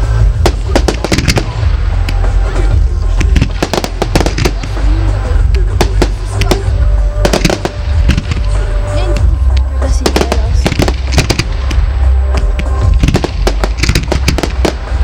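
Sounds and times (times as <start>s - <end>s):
fireworks bangs and crackles: 0.0s - 15.0s
heavy low rumble: 0.0s - 15.0s.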